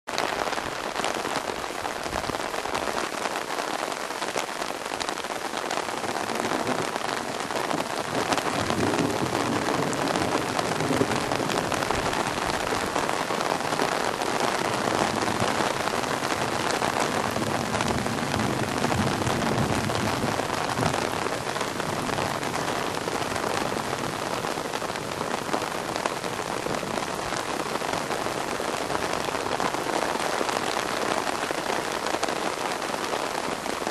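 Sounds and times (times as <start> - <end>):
rain falling on pond and grass: 0.1 - 33.9.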